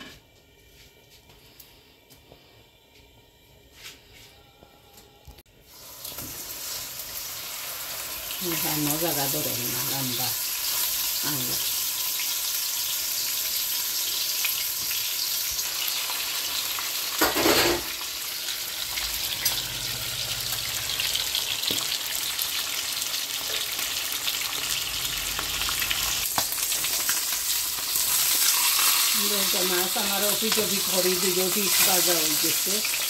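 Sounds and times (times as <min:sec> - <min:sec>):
food frying in oil: 0:05.6 - 0:33.0.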